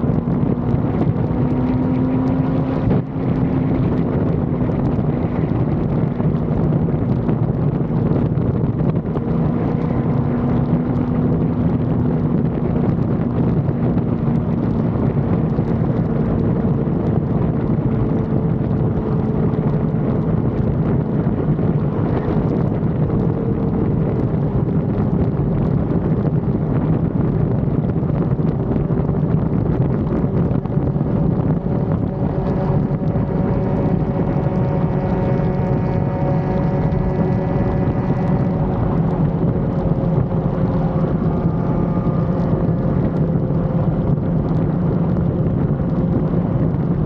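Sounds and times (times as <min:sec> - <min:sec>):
motorcycle engine cruising: 0:00.0 - 0:47.0
wind rush on microphone: 0:00.0 - 0:47.0.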